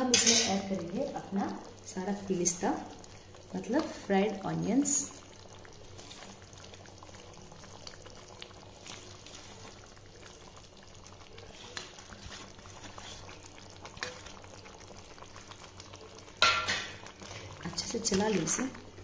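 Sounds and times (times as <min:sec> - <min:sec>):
gravy bubbling in a pan: 0:00.0 - 0:19.0.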